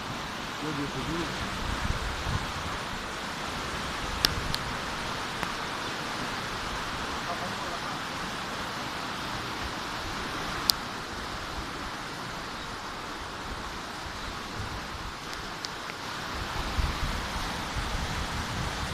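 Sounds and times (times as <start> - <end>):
rain falling: 0.0 - 18.9.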